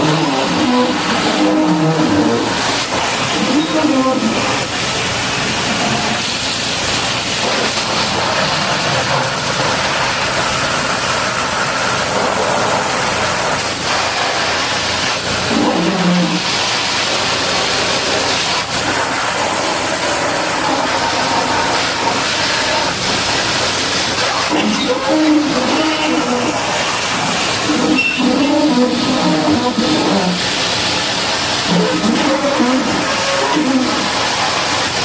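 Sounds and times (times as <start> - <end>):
high-pressure water jet hissing: 0.0 - 35.0.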